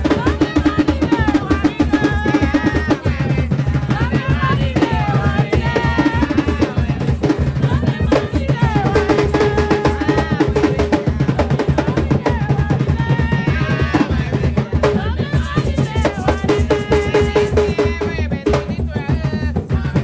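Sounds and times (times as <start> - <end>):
hand drums beating fast: 0.0 - 20.0
voices singing: 0.0 - 20.0.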